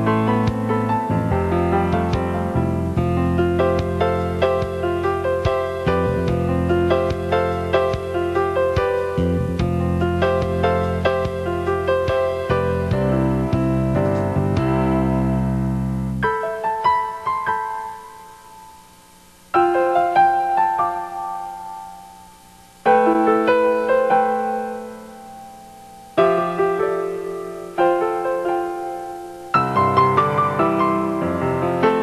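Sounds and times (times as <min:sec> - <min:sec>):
slow piano music: 0:00.0 - 0:32.0.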